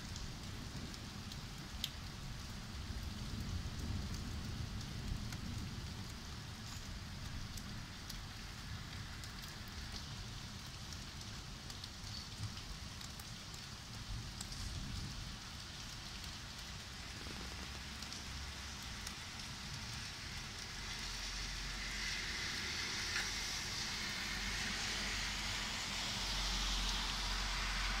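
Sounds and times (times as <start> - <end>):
heavy rain on street: 0.0 - 28.0.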